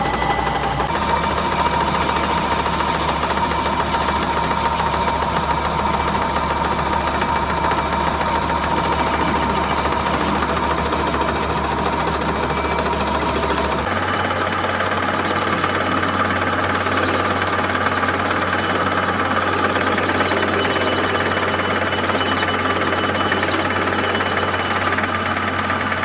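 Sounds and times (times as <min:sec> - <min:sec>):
high tone from cutting: 0:00.0 - 0:26.0
metal lathe whirring: 0:00.0 - 0:26.0.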